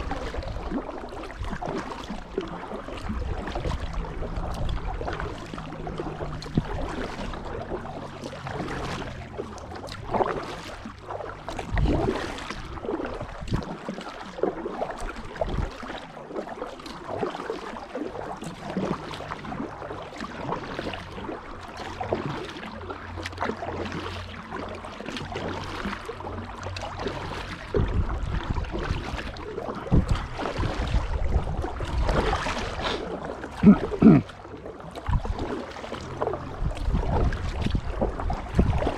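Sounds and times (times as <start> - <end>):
paddle splashing into water: 0.0 - 38.9.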